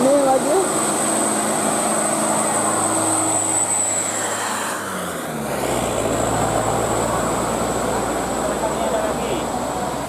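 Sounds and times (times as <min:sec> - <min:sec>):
low engine drone: 0:00.0 - 0:10.0
tyre and road noise: 0:00.0 - 0:10.0
vehicle passing by: 0:00.0 - 0:10.0.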